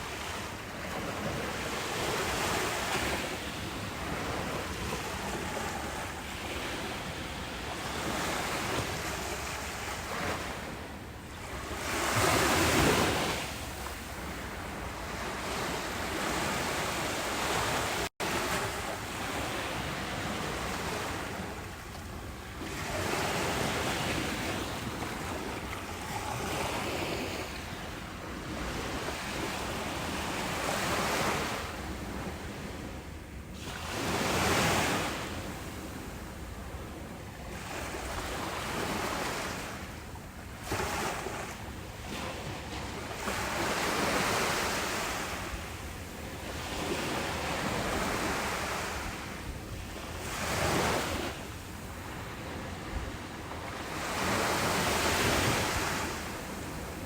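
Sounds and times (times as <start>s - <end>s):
ocean waves breaking: 0.0s - 33.0s, 33.6s - 57.0s.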